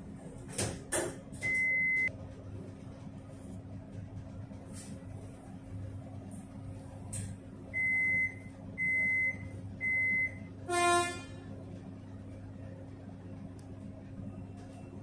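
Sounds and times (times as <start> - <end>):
low hum of train: 0.0 - 15.0.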